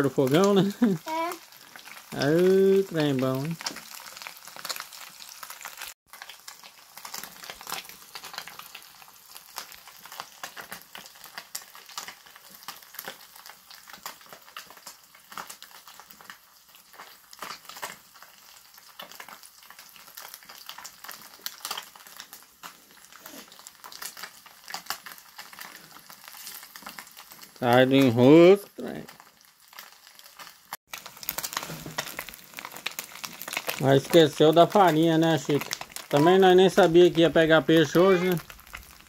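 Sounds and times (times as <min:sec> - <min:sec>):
fish sizzling in hot oil: 0:00.0 - 0:39.0.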